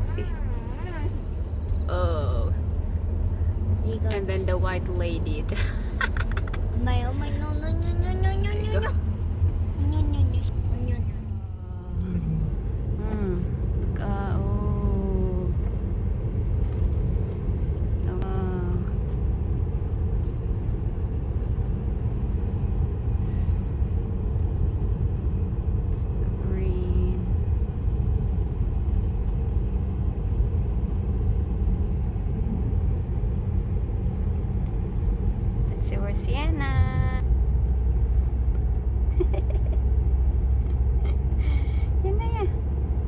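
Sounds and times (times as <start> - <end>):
car cabin road and engine rumble: 0.0 - 43.0.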